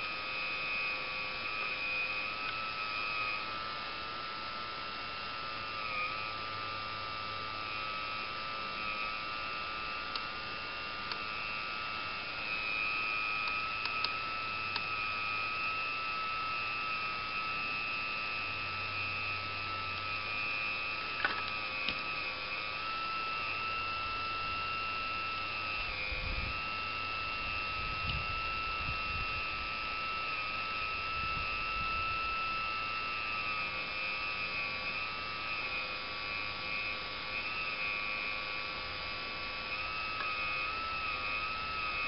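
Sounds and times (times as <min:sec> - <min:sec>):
toy excavator motor whining: 0:00.0 - 0:04.8, 0:05.4 - 0:42.0.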